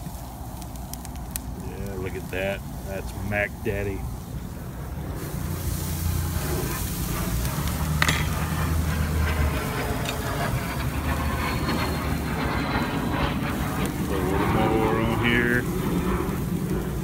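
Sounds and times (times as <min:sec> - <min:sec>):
steaks sizzling on a grill: 0:00.0 - 0:17.0
low rumble: 0:01.4 - 0:17.0.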